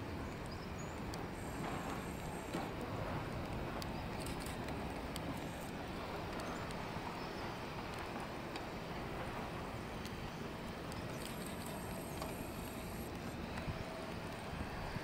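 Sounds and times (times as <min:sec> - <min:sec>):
rain and wind: 0:00.0 - 0:15.0.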